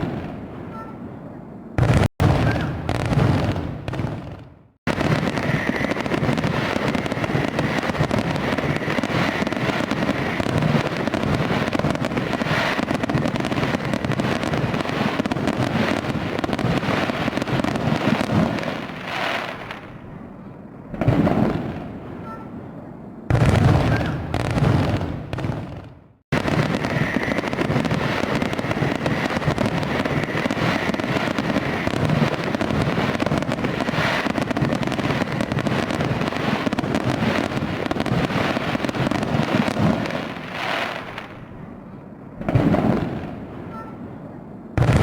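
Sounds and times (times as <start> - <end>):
loud firework bursts: 0.0 - 1.1, 1.8 - 20.0, 20.9 - 22.6, 23.3 - 41.6, 42.4 - 44.1, 44.8 - 45.0
fireworks bangs and crackles: 0.0 - 45.0.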